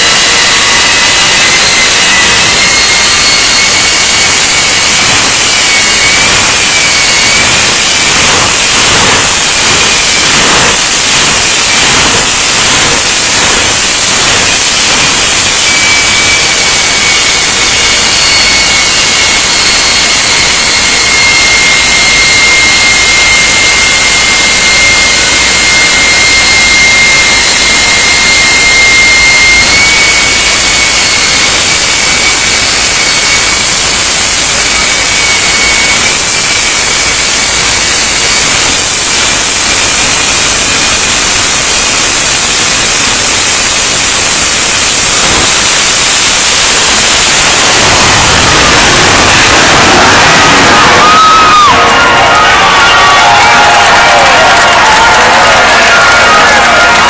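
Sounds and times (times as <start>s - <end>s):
jet engine roaring: 0.0s - 57.0s.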